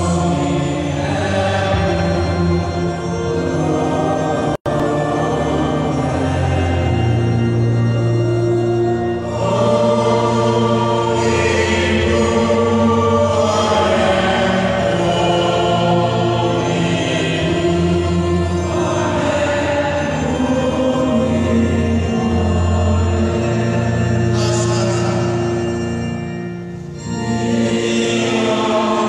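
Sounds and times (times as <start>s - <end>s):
church music with held chords: 0.0s - 29.0s
congregation singing and chanting: 0.0s - 29.0s.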